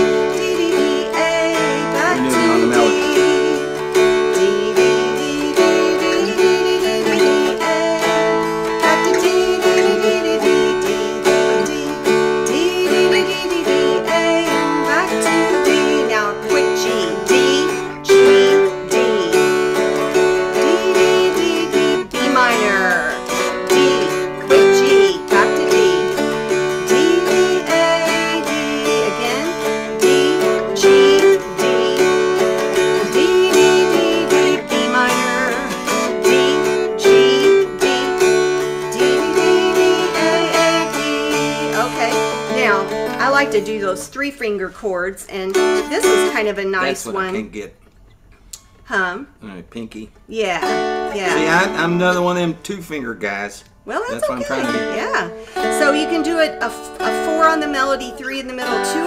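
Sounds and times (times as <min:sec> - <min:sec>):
mountain dulcimers strummed: 0:00.0 - 0:59.0.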